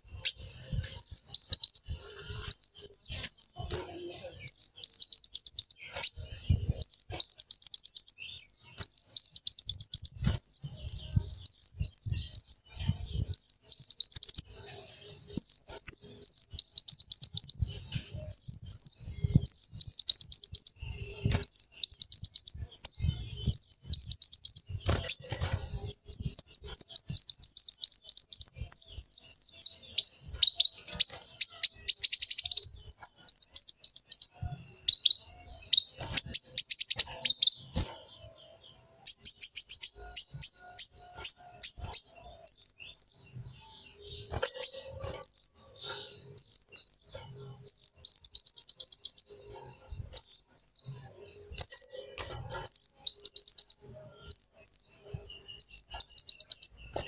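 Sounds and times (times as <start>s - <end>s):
sunbird singing: 0.0s - 57.0s.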